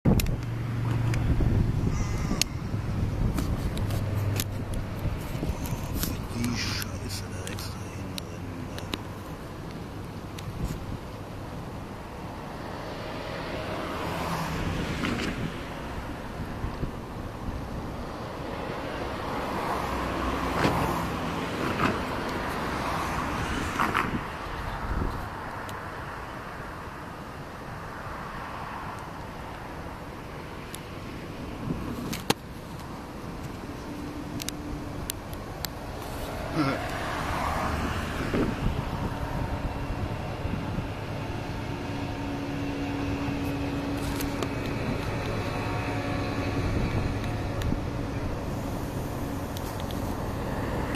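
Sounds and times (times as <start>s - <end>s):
diesel locomotive engine rumble: 0.1s - 26.0s, 29.2s - 50.9s.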